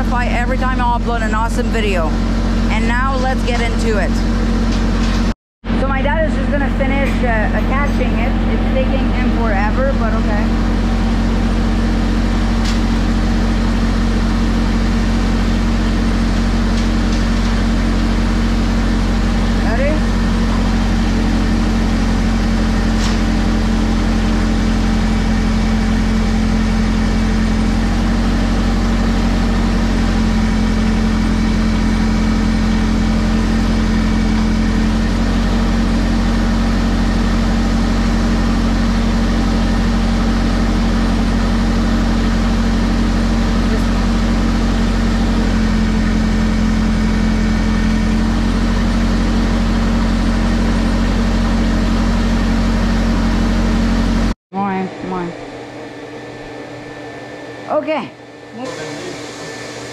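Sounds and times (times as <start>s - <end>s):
tractor engine idling: 0.0s - 54.4s.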